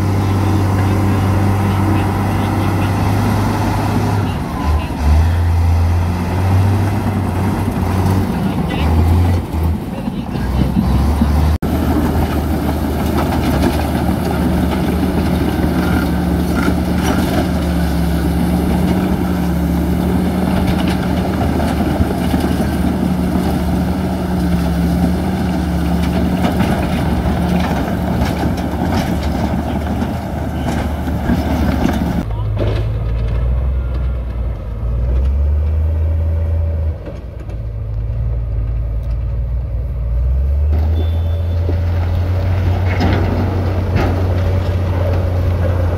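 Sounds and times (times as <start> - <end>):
heavy diesel engine drone: 0.0 - 45.9.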